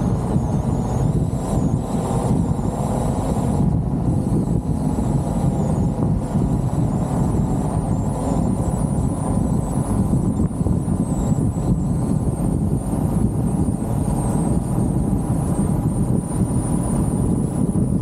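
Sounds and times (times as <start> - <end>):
road and engine rush: 0.0 - 18.0
wind buffeting microphone: 0.0 - 18.0.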